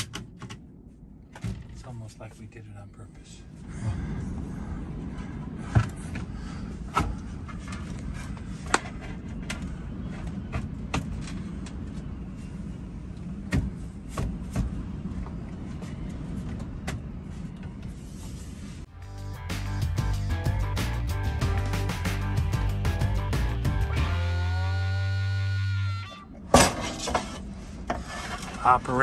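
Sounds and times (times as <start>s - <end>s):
steady low rumble: 0.0s - 24.3s.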